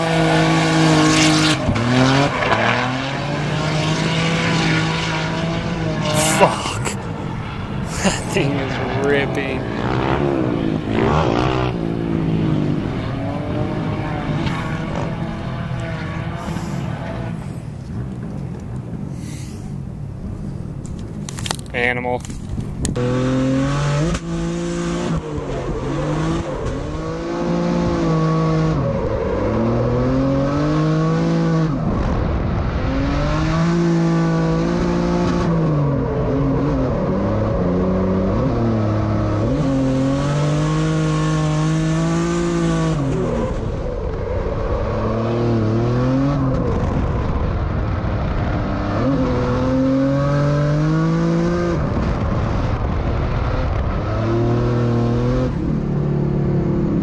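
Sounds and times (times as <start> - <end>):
car engine revving: 0.0 - 19.6, 22.8 - 57.0.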